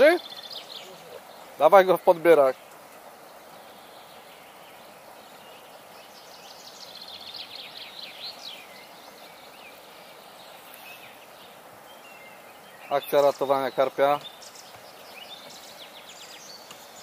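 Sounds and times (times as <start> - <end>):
small bird singing: 0.0 - 17.0
steady outdoor hiss: 0.0 - 17.0.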